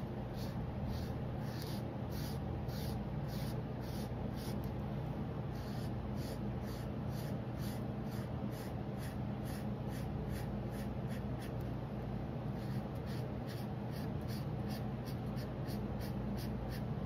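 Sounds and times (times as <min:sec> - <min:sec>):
steady low hum: 0:00.0 - 0:17.0
marker scratching on paper: 0:00.3 - 0:04.7, 0:05.5 - 0:11.6, 0:12.6 - 0:16.9.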